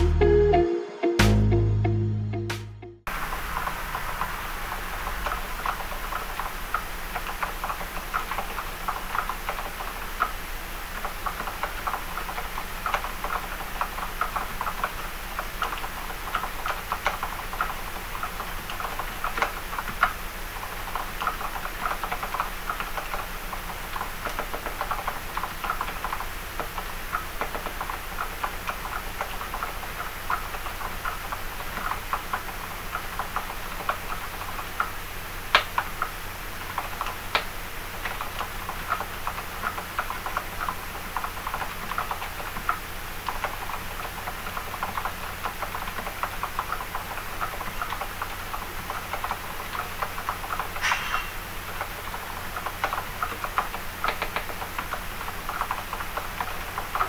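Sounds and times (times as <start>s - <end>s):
typing on mechanical keyboard: 5.2s - 34.9s, 35.5s - 50.8s, 51.7s - 57.0s.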